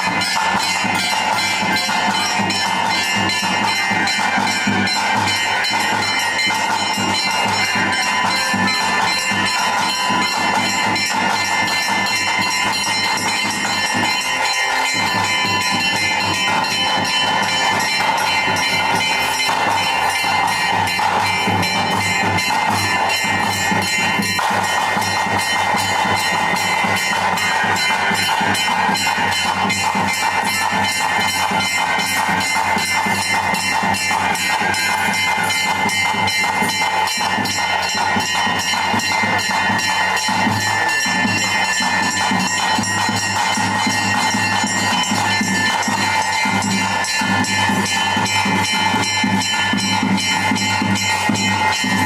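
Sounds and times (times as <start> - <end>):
bells ringing: 0.0 - 52.0
fast drum beat: 0.0 - 52.0.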